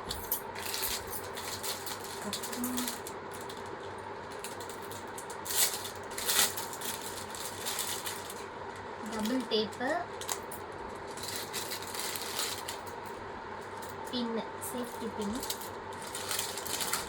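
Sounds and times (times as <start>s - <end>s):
faint steady hum: 0.0s - 17.0s
packaging rustling and clicking: 0.1s - 8.5s, 9.1s - 13.0s, 15.3s - 17.0s.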